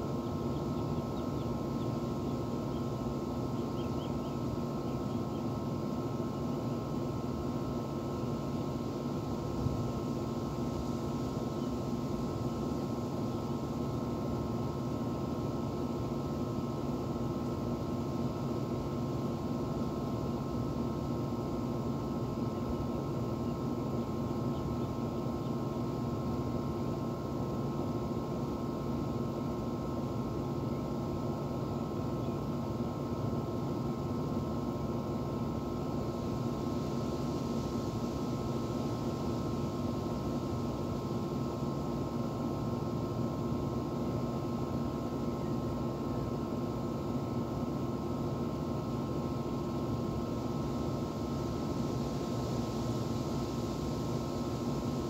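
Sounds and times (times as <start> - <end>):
air conditioner unit humming: 0.0 - 55.0
fan rushing: 0.0 - 55.0.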